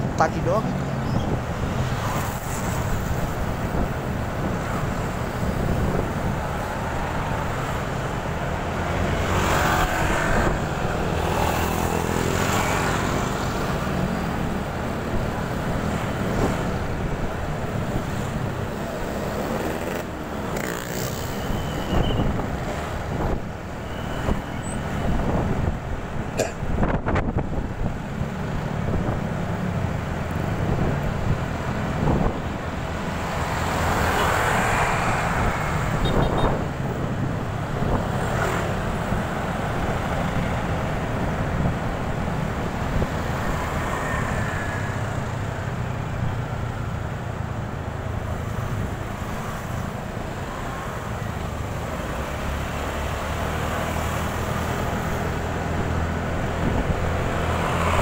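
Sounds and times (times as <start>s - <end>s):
road and traffic noise: 0.0s - 58.0s.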